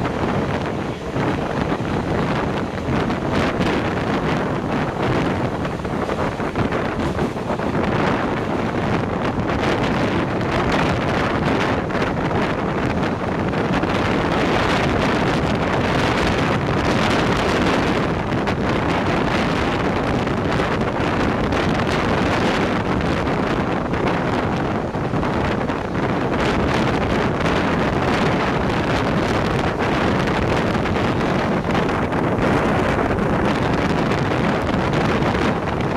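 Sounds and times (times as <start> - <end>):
moving train rumble: 0.0 - 35.9
wind buffeting microphone: 0.0 - 35.9.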